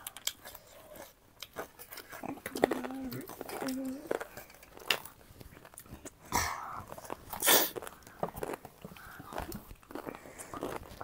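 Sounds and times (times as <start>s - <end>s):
crunching and chewing crisp snack: 0.0s - 11.0s
small crackles: 0.0s - 11.0s.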